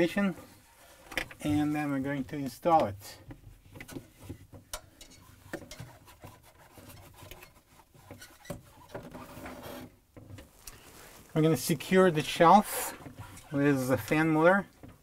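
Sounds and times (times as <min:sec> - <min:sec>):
rubbing and scraping: 0:00.0 - 0:15.0.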